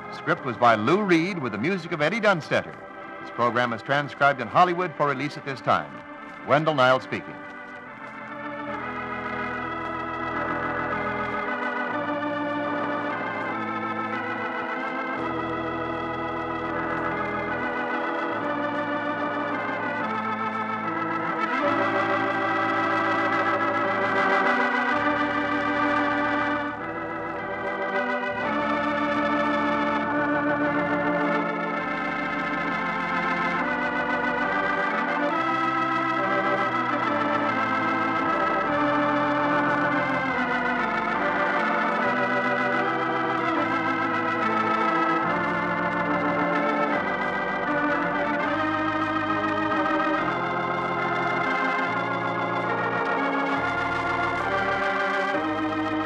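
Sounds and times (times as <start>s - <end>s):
organ chords: 0.0s - 56.0s.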